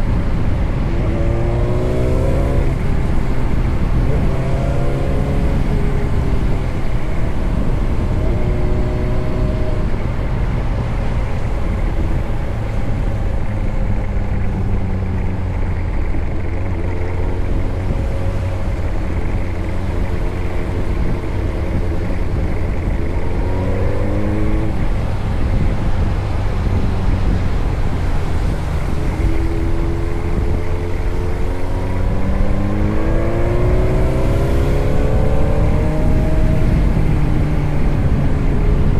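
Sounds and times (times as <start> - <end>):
low steady rumble: 0.0 - 38.9
motorcycle engine accelerating: 0.0 - 38.9.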